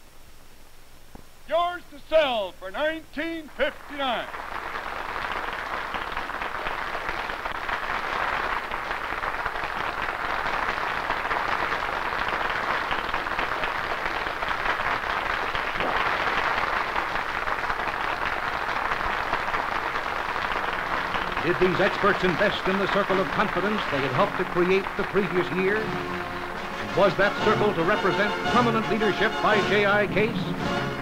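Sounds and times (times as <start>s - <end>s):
large crowd applauding: 2.8s - 31.0s.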